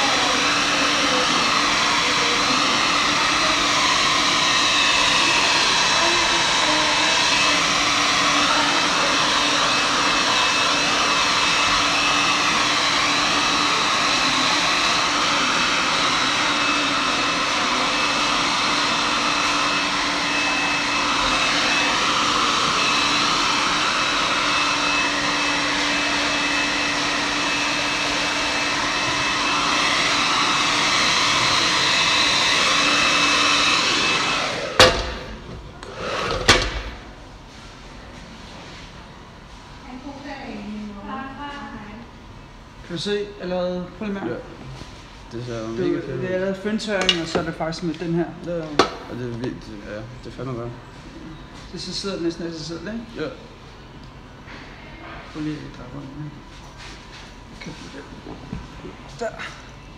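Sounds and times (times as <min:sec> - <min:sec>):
hair dryer blowing: 0:00.0 - 0:38.2, 0:38.9 - 0:59.9.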